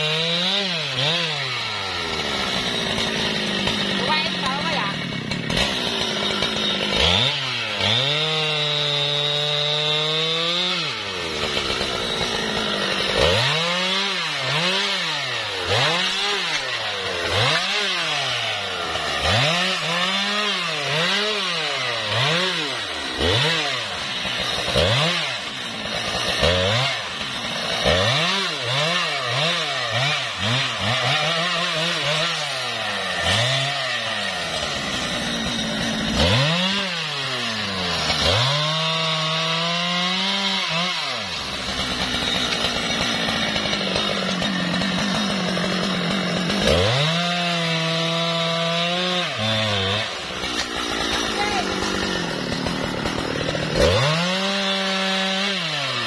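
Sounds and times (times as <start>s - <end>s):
chainsaw cutting branches: 0.0s - 56.0s
chainsaw revving: 0.0s - 56.0s.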